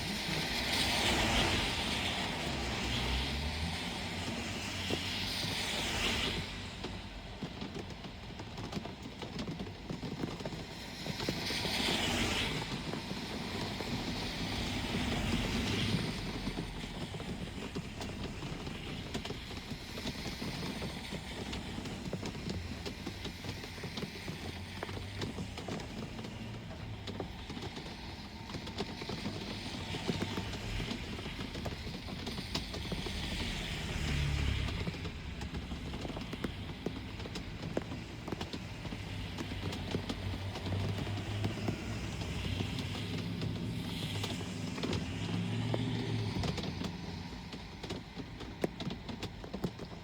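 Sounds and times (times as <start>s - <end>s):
steady rain: 0.0s - 50.0s
traffic on wet streets: 0.0s - 50.0s
tyres hissing on wet road: 0.0s - 50.0s.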